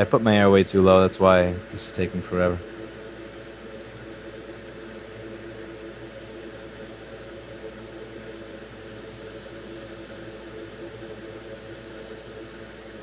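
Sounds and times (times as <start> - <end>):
hot air blower hissing: 0.0 - 13.0.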